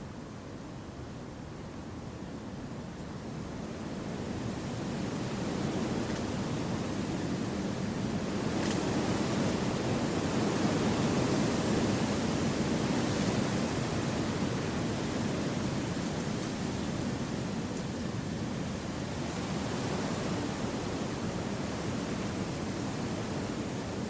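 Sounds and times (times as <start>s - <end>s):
wind through forest trees: 0.0s - 24.0s.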